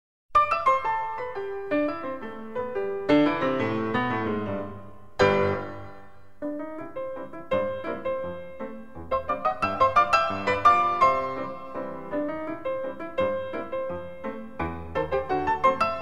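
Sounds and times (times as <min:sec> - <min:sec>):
piano music: 0:00.3 - 0:16.0.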